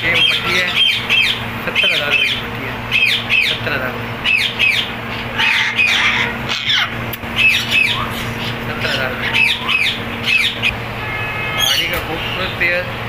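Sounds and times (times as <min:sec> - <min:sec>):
parrots squawking and chirping: 0:00.0 - 0:12.6
steady low hum: 0:00.0 - 0:13.0.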